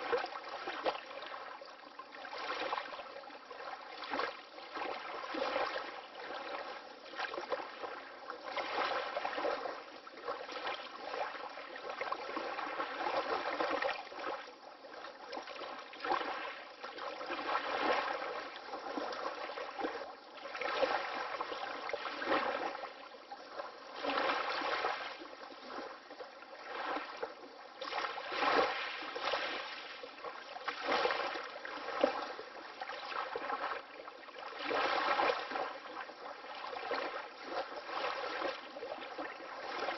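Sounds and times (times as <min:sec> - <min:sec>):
water lapping in small waves: 0:00.0 - 0:39.9.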